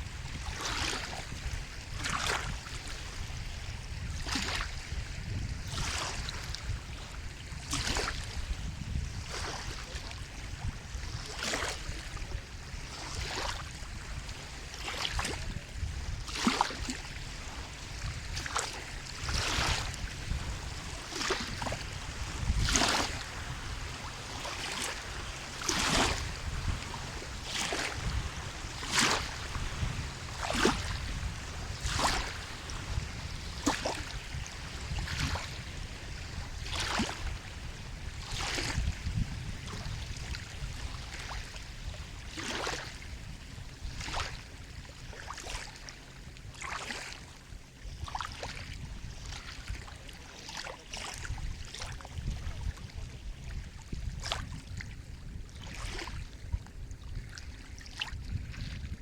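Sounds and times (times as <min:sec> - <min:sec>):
low rumble of sea: 0:00.0 - 0:59.0
small waves lapping and splashing: 0:00.0 - 0:59.0.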